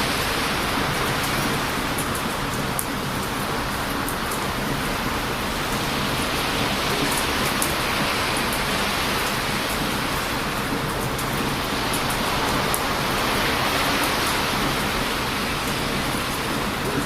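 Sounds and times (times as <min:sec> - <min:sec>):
campfire crackling: 0:00.0 - 0:17.0
strong wind: 0:00.0 - 0:17.0
surf breaking on beach: 0:00.0 - 0:17.0.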